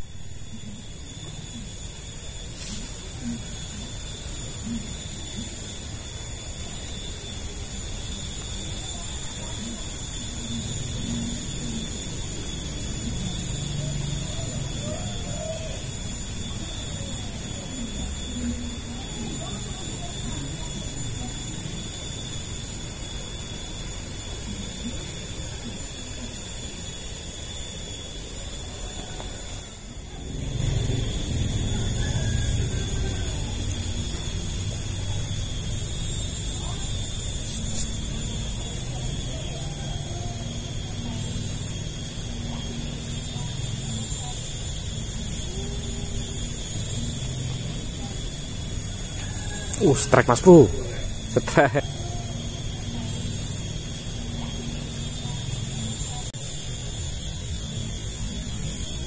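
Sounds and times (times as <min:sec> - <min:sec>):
high-pitched whine: 0:00.0 - 0:59.0.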